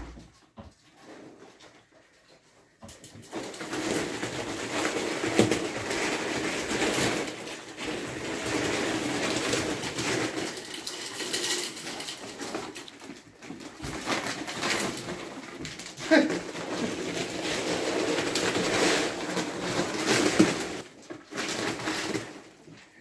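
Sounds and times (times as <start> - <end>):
ferrets scrambling through plastic tubes: 0.0 - 23.0
plastic tube crinkling and rattling: 0.0 - 23.0.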